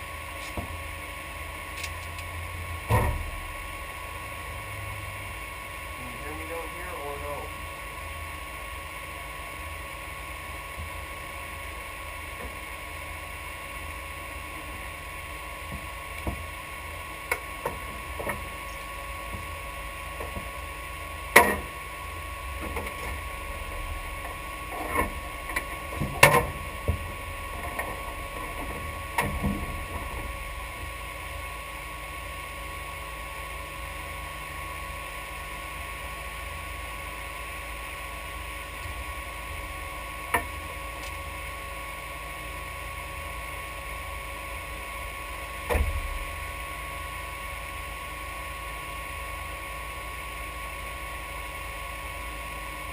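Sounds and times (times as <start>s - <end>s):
low hum: 0.0s - 49.2s.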